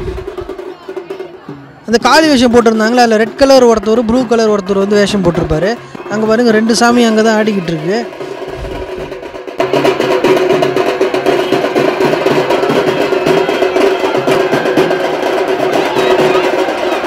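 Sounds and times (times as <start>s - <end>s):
festival drums beating fast: 0.0s - 17.0s.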